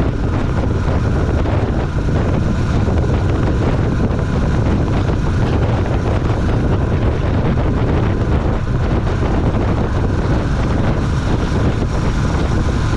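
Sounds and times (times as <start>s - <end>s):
motorcycle engine running: 0.0s - 12.9s
wind rush on microphone: 0.0s - 12.9s.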